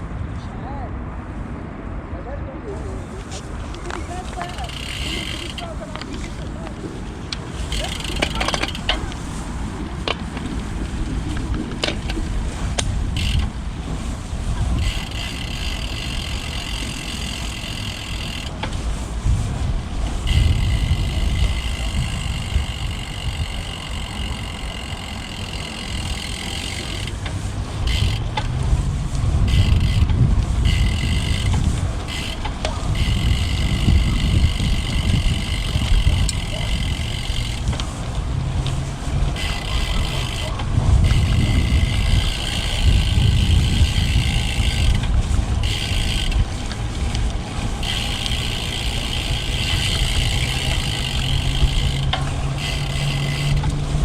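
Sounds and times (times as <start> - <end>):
wind rumbling on microphone: 0.0 - 54.0
bike clicks and rattles: 3.2 - 54.0.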